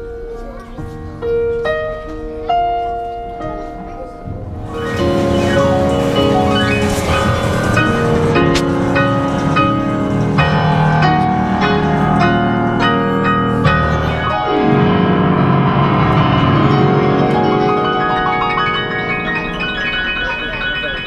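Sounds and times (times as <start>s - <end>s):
digital piano music: 0.0s - 21.0s.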